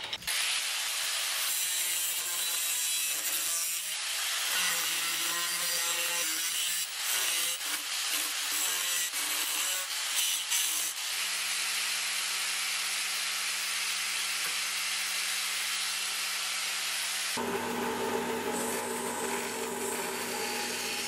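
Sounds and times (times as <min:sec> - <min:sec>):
angle grinder cutting steel: 0:00.0 - 0:21.0.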